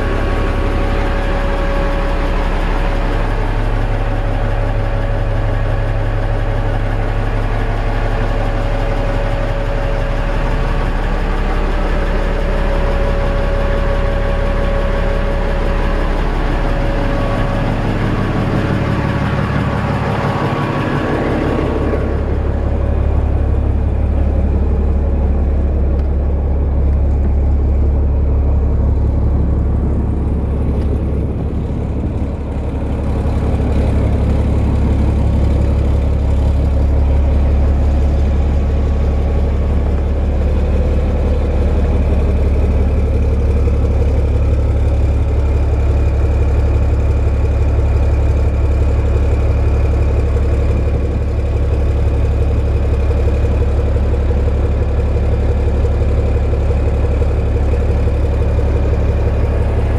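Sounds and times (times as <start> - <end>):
marine diesel engine idling: 0.0 - 59.9.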